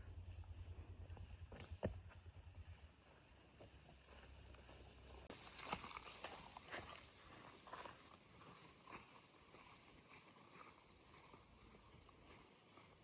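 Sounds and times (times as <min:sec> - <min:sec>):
soft ticks and rustles: 0:00.3 - 0:13.0.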